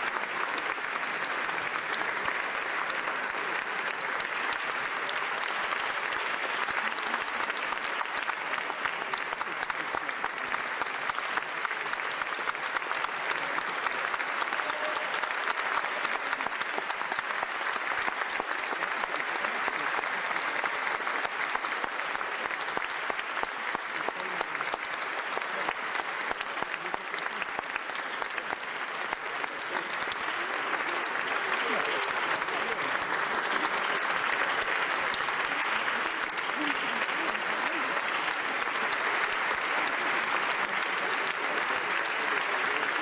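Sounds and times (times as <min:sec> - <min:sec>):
audience applauding: 0:00.0 - 0:43.0.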